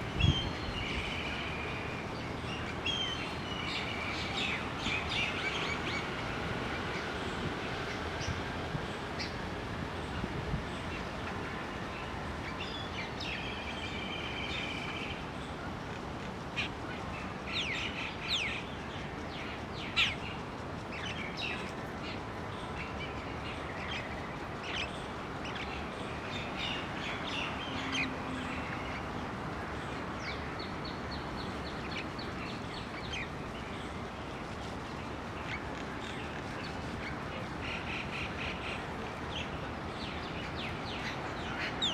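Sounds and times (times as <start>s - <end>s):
steady background noise: 0.0s - 41.9s.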